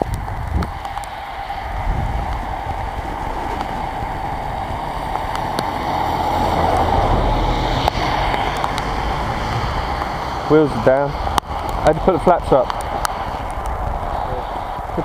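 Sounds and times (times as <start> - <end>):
heavy rain: 0.0 - 15.0
wind buffeting microphone: 0.0 - 15.0.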